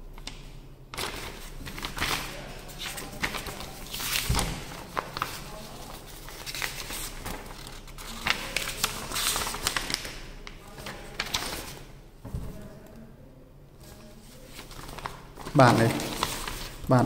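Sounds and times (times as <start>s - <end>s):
paper pages rustling: 0.2s - 12.8s, 13.8s - 17.0s.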